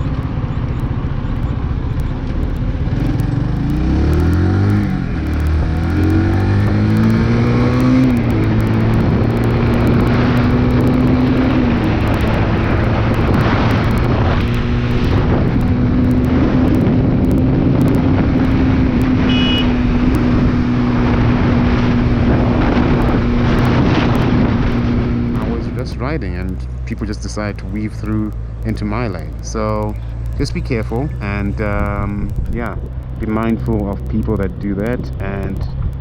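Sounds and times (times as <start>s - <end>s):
motorcycle engine accelerating: 0.0s - 36.0s
wind and road noise: 0.0s - 36.0s.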